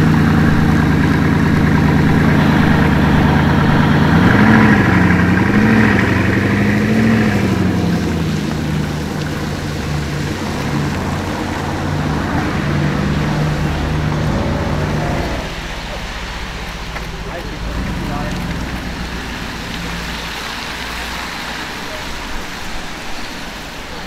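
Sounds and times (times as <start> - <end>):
sports car engine revving: 0.0 - 23.0
sports car engine idling: 0.0 - 24.0.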